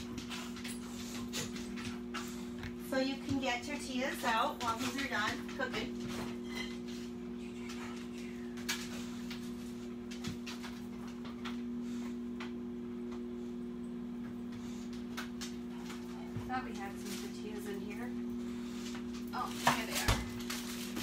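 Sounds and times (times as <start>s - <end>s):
refrigerator low hum: 0.0s - 21.0s.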